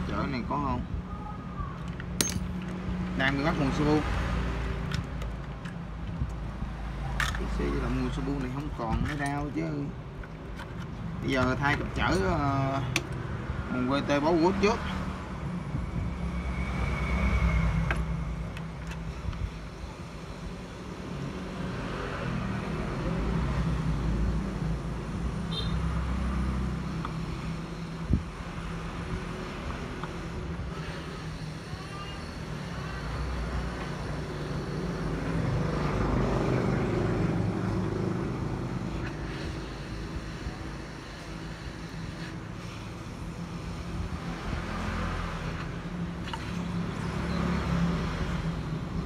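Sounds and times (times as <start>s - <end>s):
road traffic rumbling past: 0.0s - 8.6s, 9.6s - 49.0s.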